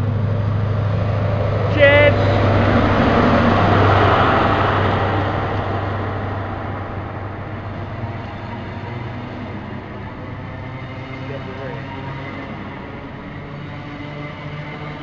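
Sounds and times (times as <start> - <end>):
diesel engine drone: 0.0 - 15.0
wheels rumbling on rail: 0.0 - 15.0.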